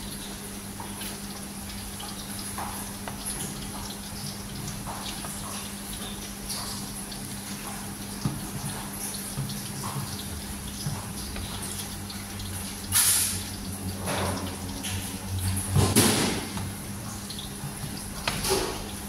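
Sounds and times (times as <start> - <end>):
ladle stirring and splashing liquid: 0.0 - 19.0
soup boiling: 0.0 - 19.0.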